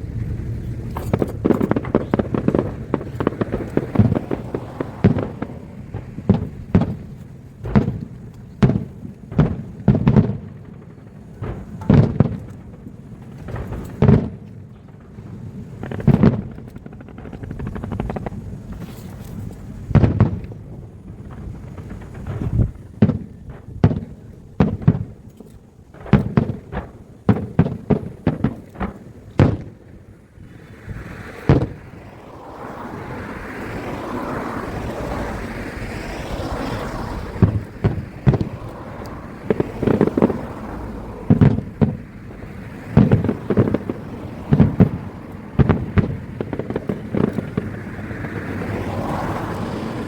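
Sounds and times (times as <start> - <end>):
fireworks bursting with booms: 0.0 - 50.0
steady rushing noise: 0.0 - 50.0.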